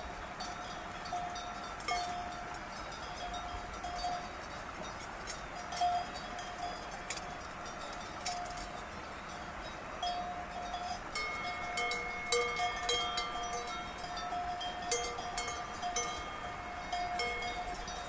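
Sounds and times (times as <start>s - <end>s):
cowbells clanking: 0.4s - 18.0s.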